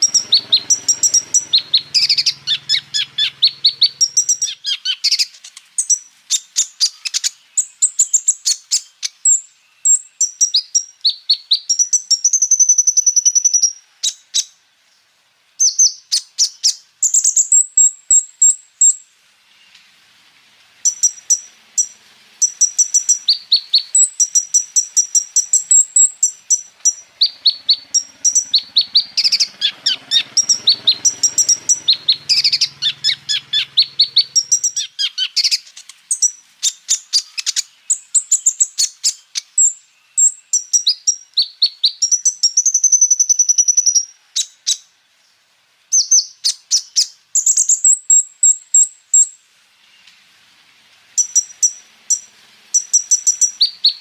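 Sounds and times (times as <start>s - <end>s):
bird singing rapid trills: 0.0s - 14.7s, 15.6s - 19.1s, 20.8s - 44.9s, 45.9s - 49.4s, 51.2s - 54.0s.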